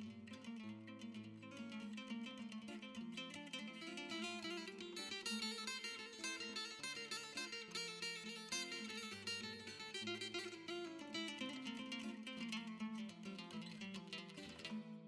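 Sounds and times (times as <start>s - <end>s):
acoustic guitar plucked and strummed: 0.0s - 15.0s.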